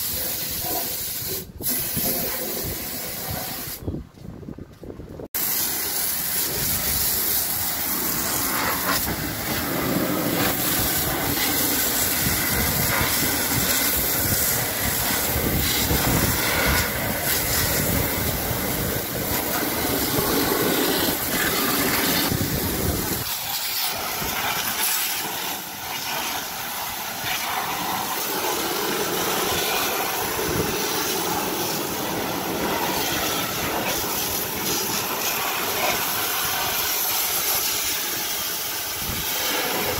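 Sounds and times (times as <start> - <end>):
hose water jet hissing: 0.0 - 3.8, 5.4 - 39.9.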